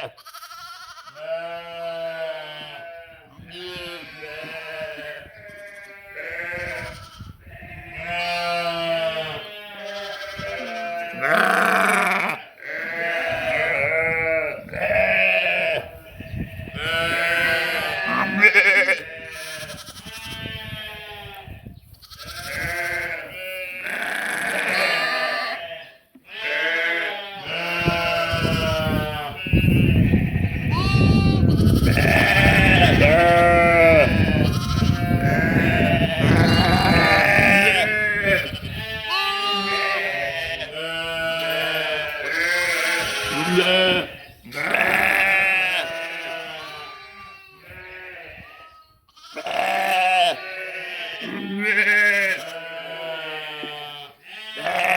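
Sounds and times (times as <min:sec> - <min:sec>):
sheep and lambs bleating: 0:00.0 - 0:54.9.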